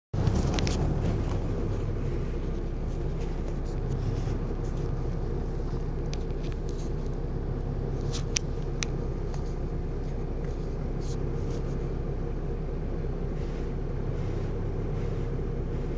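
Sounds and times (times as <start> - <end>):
bus engine droning: 0.1 - 15.9.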